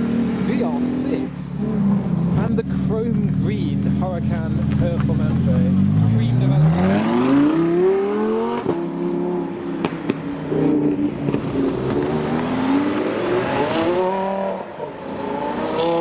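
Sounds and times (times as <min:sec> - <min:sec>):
car engines accelerating: 0:00.0 - 0:16.0.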